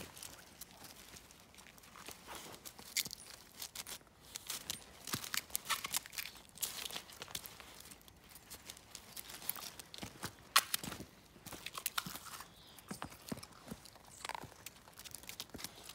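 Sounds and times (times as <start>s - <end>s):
ice and dry leaves crackling: 0.0s - 15.9s.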